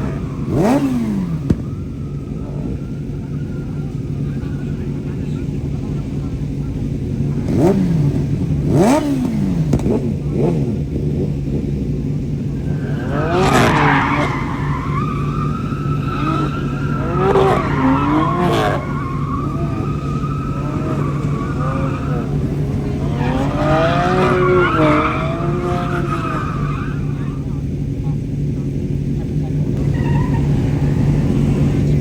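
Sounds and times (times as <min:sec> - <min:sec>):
tyres squealing: 0:00.0 - 0:07.6, 0:12.4 - 0:28.4, 0:29.2 - 0:32.0
car engine revving: 0:00.0 - 0:32.0.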